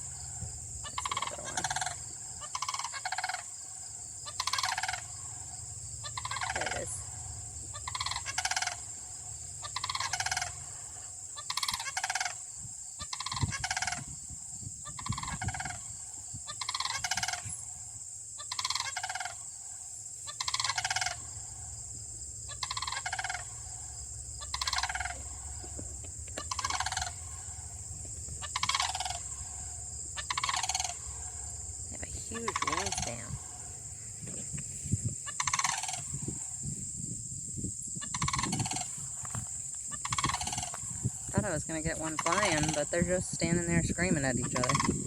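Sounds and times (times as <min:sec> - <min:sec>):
cranes calling: 0:00.0 - 0:36.8, 0:38.0 - 0:45.0.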